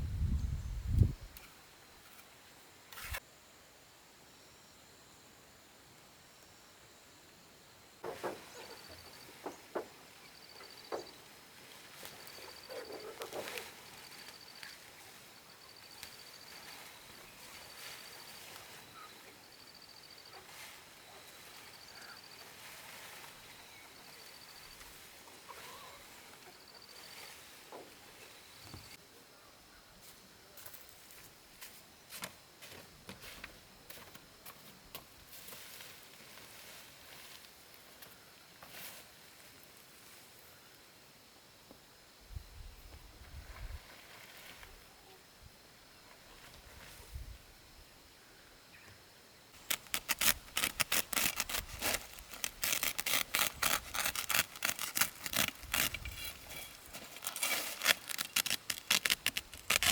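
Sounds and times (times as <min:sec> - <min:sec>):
cricket chirping: 0:00.1 - 0:35.2, 0:35.9 - 0:59.9.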